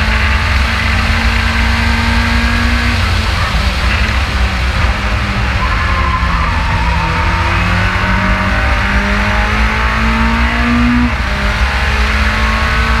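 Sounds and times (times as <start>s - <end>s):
race car engine accelerating: 0.0s - 13.0s
wind and road noise: 0.0s - 13.0s.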